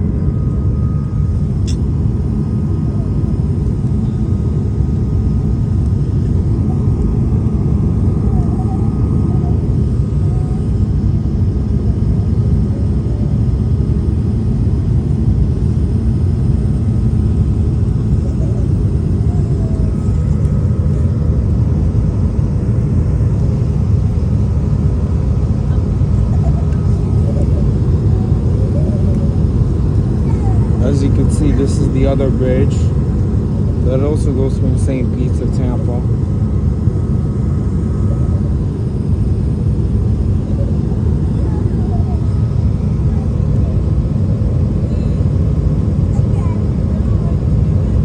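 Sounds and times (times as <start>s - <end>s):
airplane cabin roar: 0.0s - 48.0s
faint steady whine: 0.0s - 48.0s.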